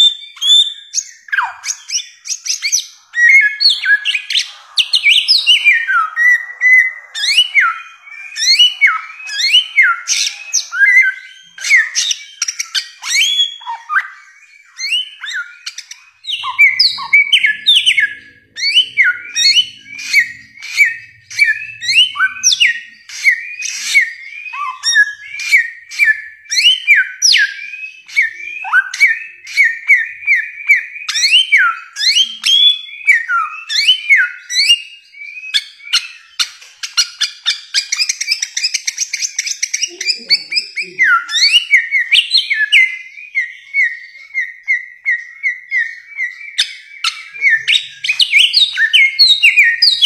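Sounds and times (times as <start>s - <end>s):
fast high bird chatter: 0.0s - 34.8s, 35.5s - 44.7s, 45.5s - 50.0s
bird whistling: 0.0s - 50.0s.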